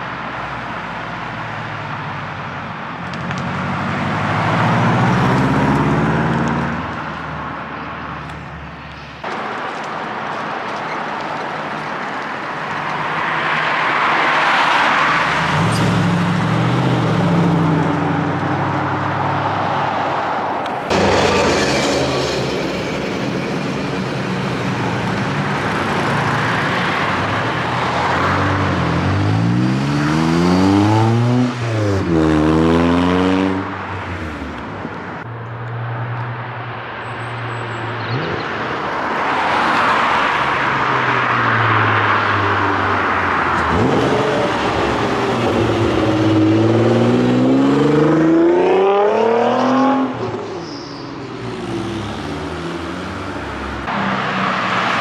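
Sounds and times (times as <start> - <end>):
car engine revving: 0.0 - 50.5
cars driving past: 0.0 - 55.0.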